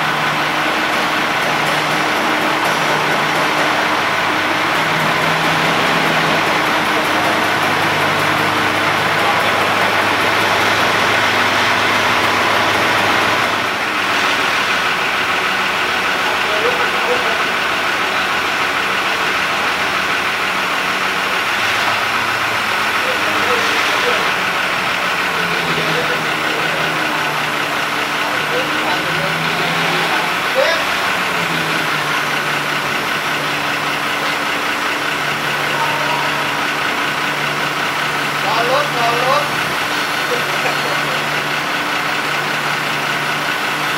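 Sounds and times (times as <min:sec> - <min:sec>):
large engine running: 0:00.0 - 0:43.9.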